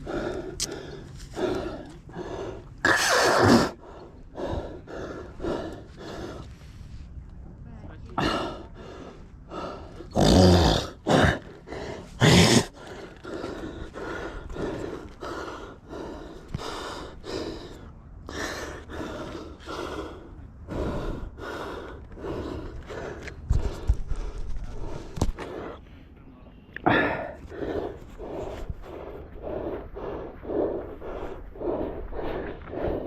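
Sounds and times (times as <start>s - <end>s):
person panting: 0.0s - 7.0s, 8.2s - 26.1s, 26.9s - 33.0s.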